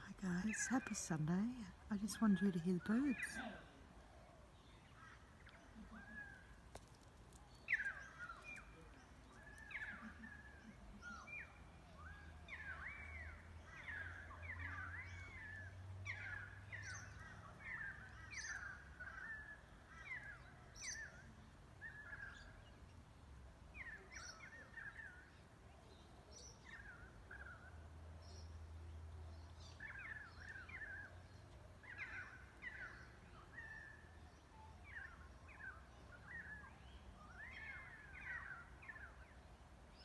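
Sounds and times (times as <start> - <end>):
wild birds chirping: 0.0 - 40.0.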